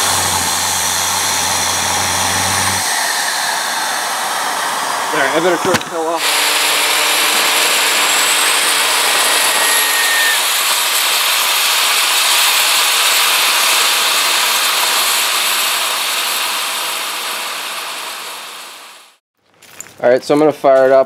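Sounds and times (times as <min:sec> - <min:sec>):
turbojet roar and whistle: 0:00.0 - 0:18.4.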